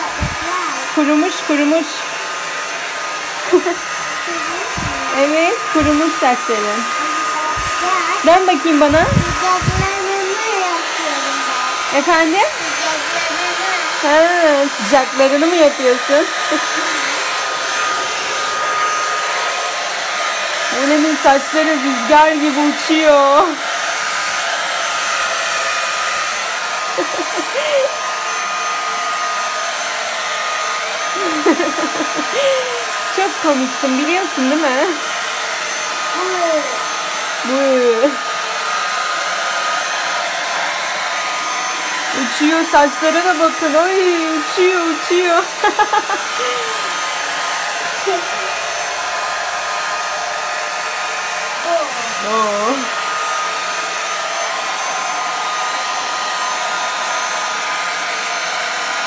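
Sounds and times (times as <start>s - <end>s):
fan motor whine: 0.0s - 58.7s
hair dryer blowing air: 0.0s - 59.0s.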